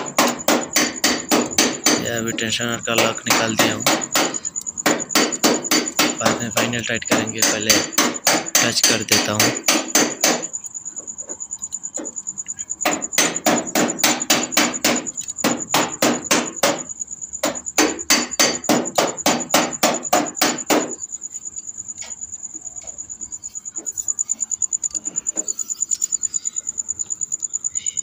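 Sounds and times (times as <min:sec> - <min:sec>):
insect trill: 0:00.0 - 0:28.0.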